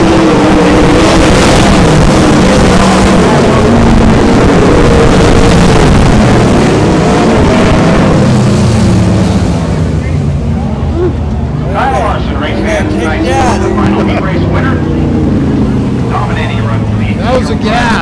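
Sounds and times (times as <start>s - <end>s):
sprint car engines racing: 0.0s - 18.0s.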